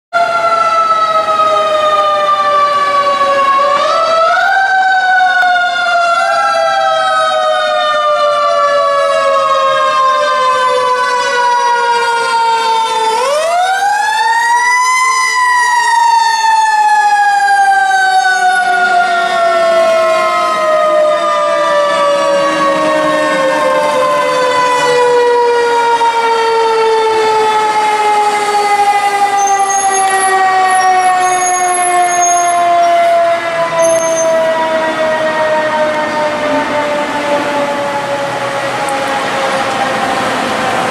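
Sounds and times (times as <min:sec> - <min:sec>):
fire engine siren wailing: 0:00.1 - 0:40.9.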